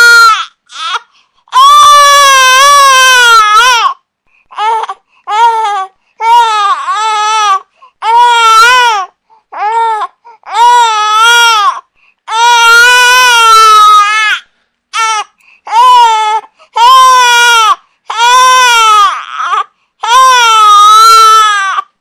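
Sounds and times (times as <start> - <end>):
infant crying: 0.0 - 22.0.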